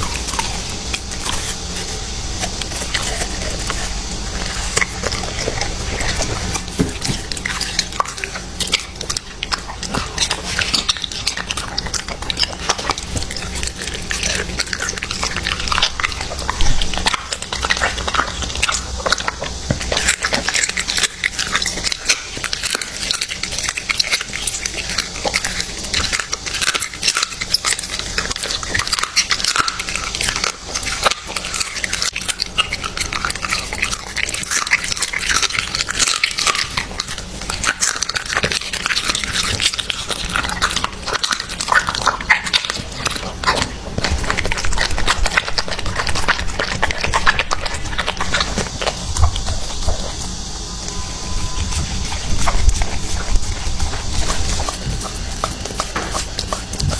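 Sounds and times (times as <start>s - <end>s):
dog chewing raw meat: 0.0s - 56.9s.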